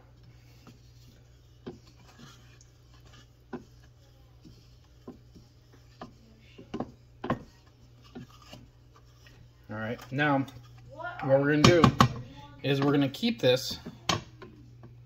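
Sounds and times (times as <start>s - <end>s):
wooden spoon stirring sauce: 0.0s - 15.0s.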